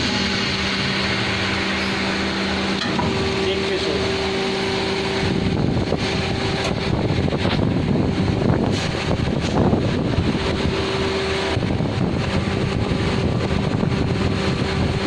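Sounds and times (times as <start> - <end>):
turning machine humming: 0.0 - 15.0.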